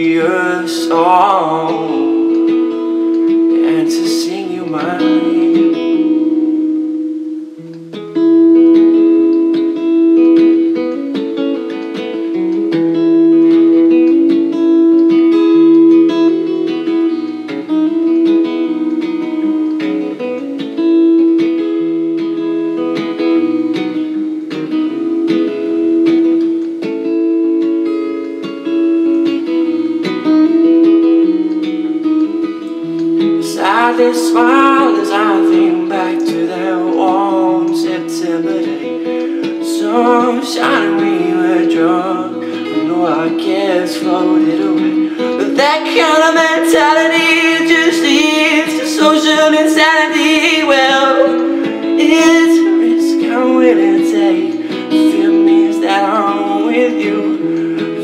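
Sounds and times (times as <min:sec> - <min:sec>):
person singing: 0:00.0 - 0:06.9, 0:07.6 - 0:58.0
acoustic guitar playing: 0:00.0 - 0:58.0.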